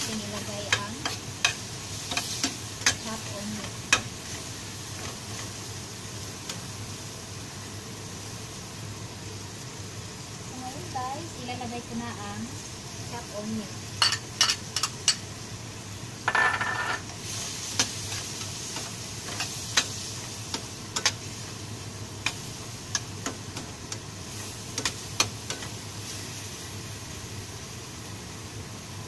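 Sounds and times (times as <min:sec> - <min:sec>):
vegetables sizzling in frying pan: 0:00.0 - 0:29.0.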